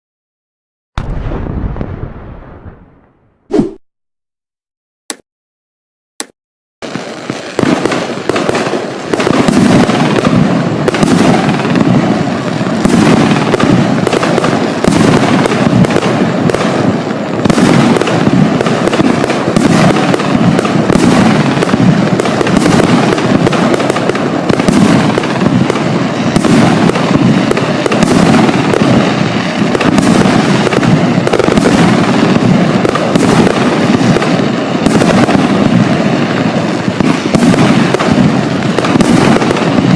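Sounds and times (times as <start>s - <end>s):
fireworks launch thumps and bursts: 7.3s - 12.1s, 12.7s - 39.9s.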